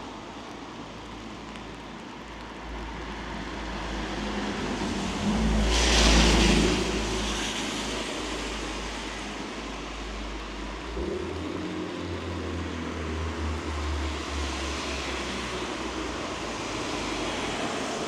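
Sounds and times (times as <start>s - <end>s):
car tyres hissing on wet road: 0.0s - 18.0s.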